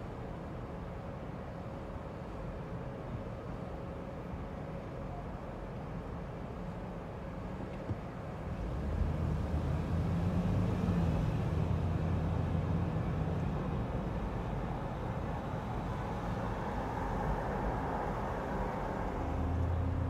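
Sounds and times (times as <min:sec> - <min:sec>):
city street traffic: 0:00.0 - 0:20.0
low engine rumble: 0:00.0 - 0:20.0.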